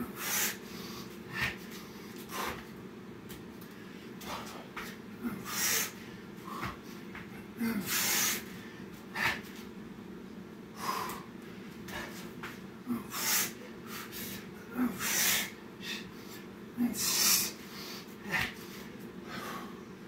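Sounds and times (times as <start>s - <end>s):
man breathing hard: 0.0s - 2.8s, 3.6s - 9.6s, 10.7s - 20.0s.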